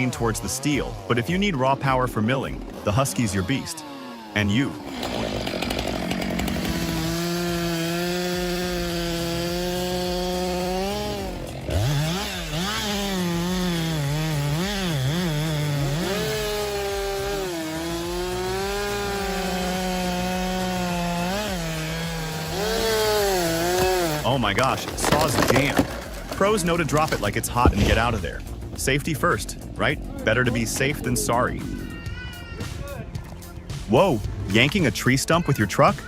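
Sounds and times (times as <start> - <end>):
chainsaw cutting wood: 0.0 - 29.8.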